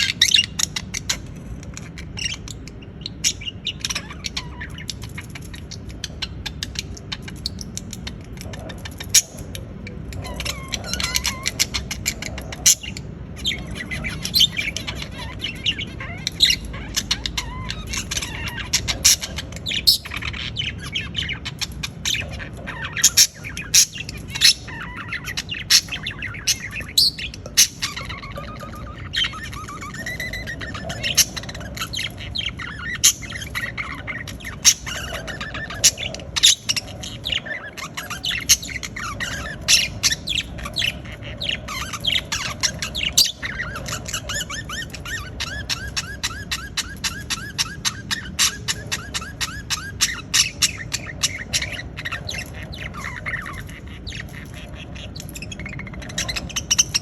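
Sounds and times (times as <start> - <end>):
budgerigars chirping and squawking: 0.0 - 57.0
low background hum: 0.0 - 57.0.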